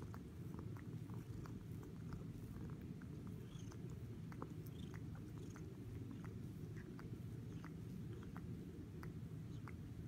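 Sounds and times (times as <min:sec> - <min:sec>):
kitten licking: 0:00.0 - 0:10.0
kitten purring: 0:00.0 - 0:10.0.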